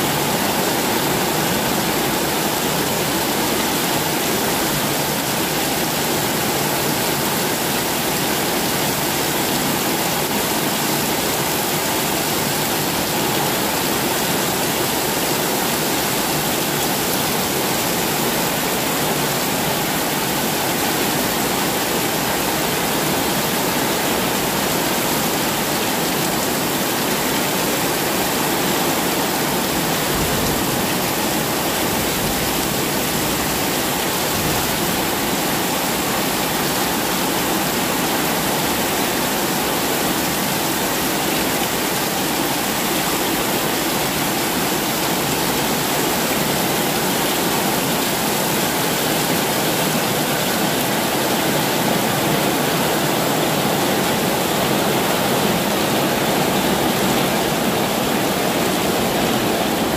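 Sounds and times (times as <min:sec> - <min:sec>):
heavy rain pouring on roofs: 0:00.0 - 0:59.9
water streaming off roof edges: 0:00.0 - 0:59.9.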